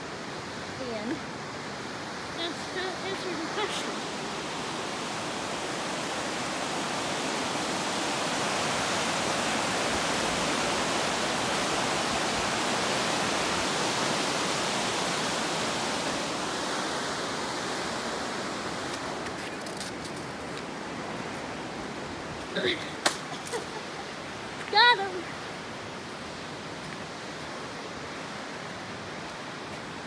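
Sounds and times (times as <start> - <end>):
flowing water rushing: 0.0 - 30.0.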